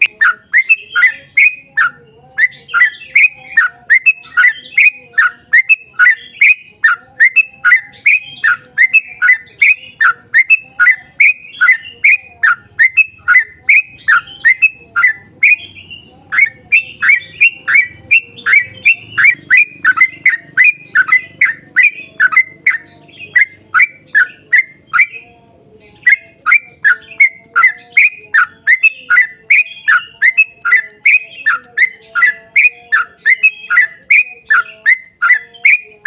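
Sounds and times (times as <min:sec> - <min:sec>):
bulbul singing chattering notes: 0:00.0 - 0:36.0.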